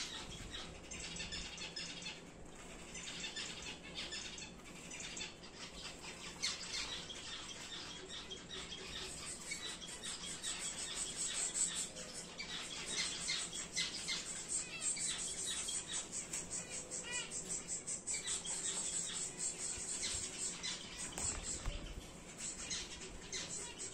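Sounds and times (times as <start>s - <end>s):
finches chirping: 0.0s - 23.9s.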